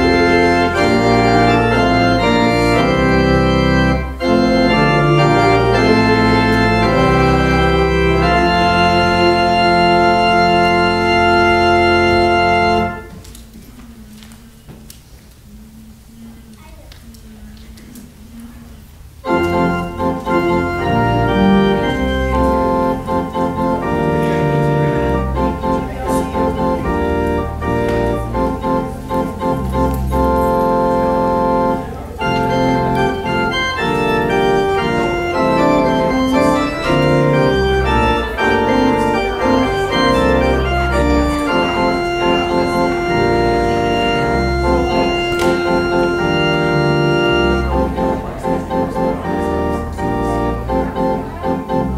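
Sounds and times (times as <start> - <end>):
church organ playing chords: 0.0 - 13.3, 19.2 - 51.9.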